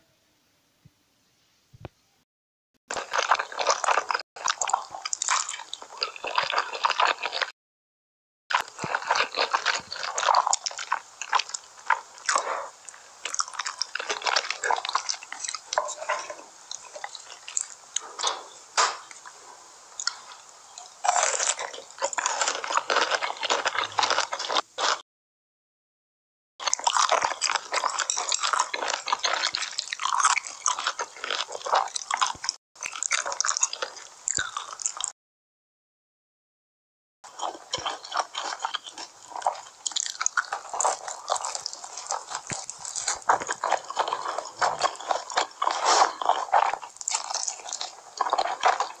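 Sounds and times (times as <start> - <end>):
wet chewing and crunching: 2.9 - 7.6, 8.5 - 25.0, 26.6 - 35.2, 37.3 - 49.0.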